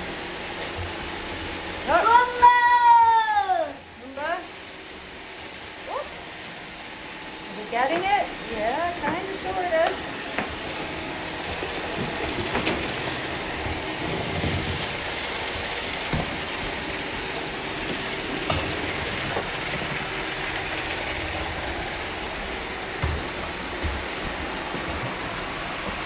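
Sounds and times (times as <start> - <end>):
robot vacuum motors whirring: 0.0 - 26.0.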